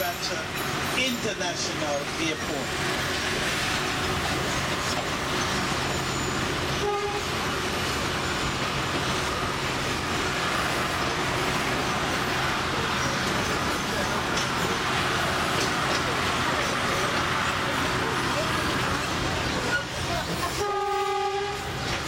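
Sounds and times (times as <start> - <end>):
low steady engine hum: 0.0 - 22.0
train wheels on rails: 0.0 - 22.0.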